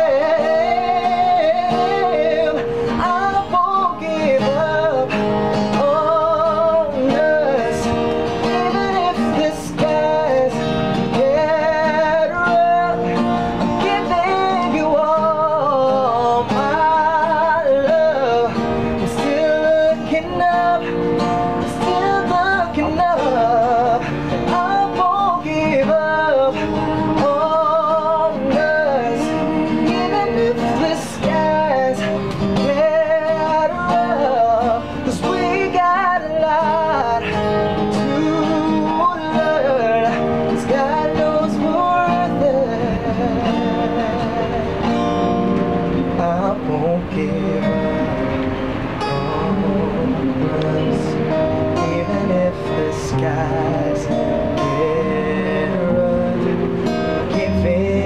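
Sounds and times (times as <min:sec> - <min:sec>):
acoustic guitar: 0:00.0 - 0:58.0
person singing pop love song: 0:00.0 - 0:58.0.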